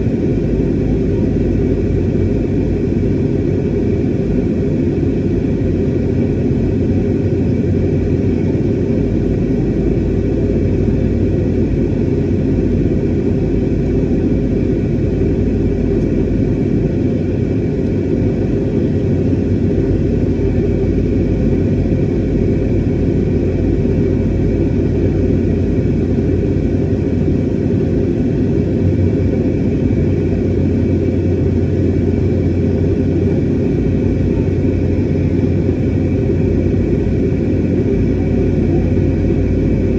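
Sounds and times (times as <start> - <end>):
airliner cabin engine rumble: 0.0 - 39.9
faint steady hums: 0.0 - 39.9.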